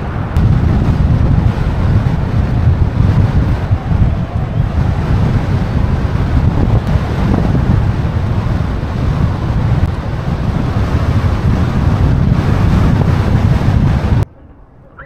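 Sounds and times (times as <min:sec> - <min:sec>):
strong wind buffeting microphone: 0:00.0 - 0:14.8.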